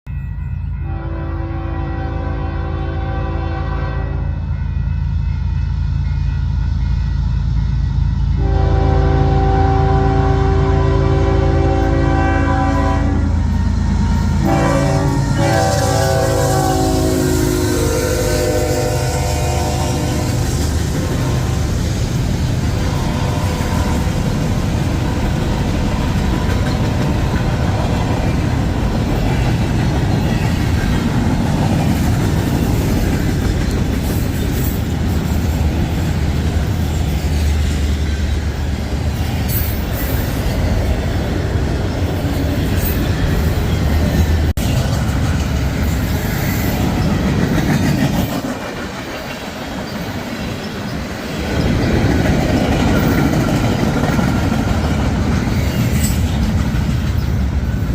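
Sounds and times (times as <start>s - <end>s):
freight train rolling past: 0.1s - 57.9s.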